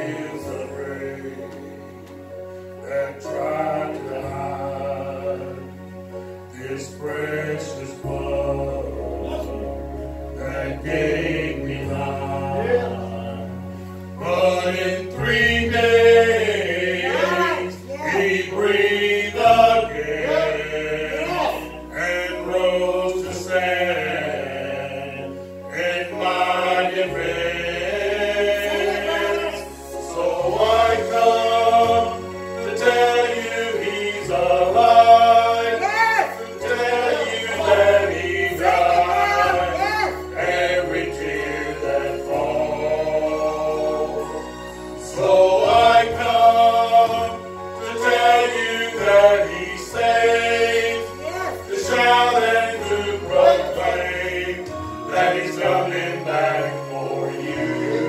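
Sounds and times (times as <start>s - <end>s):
group singing gospel song: 0.0s - 58.0s
instrumental accompaniment: 0.0s - 58.0s.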